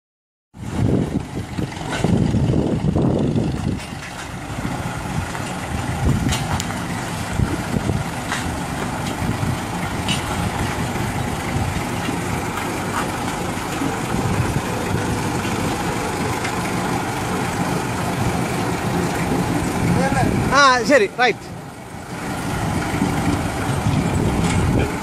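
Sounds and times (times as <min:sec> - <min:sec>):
road roller engine running: 0:00.6 - 0:25.0.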